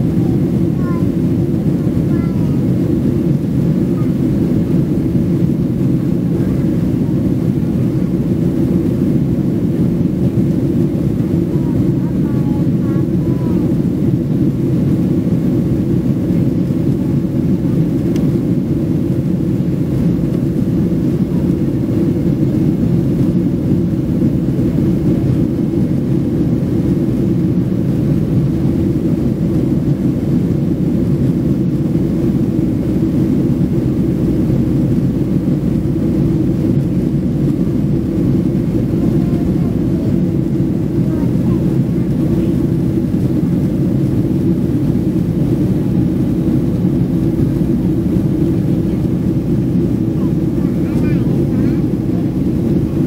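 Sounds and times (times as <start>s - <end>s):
jet engine cabin rumble: 0.0s - 53.0s.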